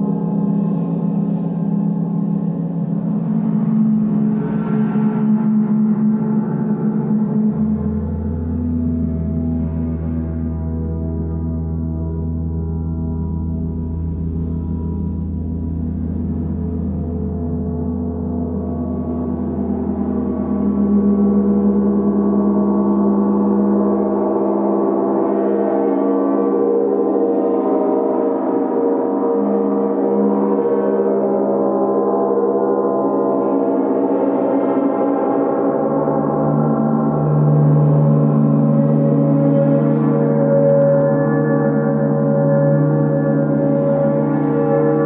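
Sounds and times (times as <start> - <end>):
large gongs ringing: 0.0 - 45.0.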